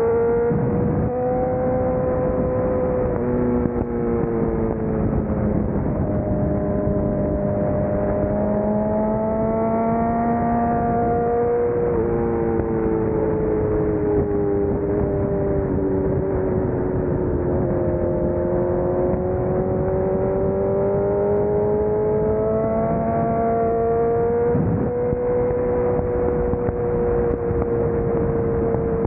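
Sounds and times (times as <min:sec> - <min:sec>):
motorcycle engine running: 0:00.0 - 0:29.0
wind and road rush: 0:00.0 - 0:29.0.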